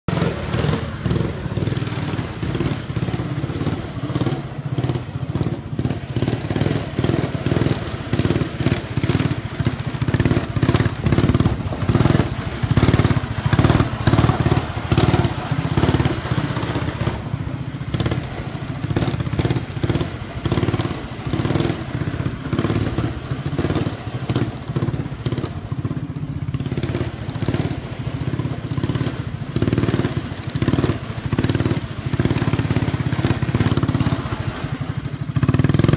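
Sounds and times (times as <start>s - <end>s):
snowmobile engine running: 0.0s - 35.9s.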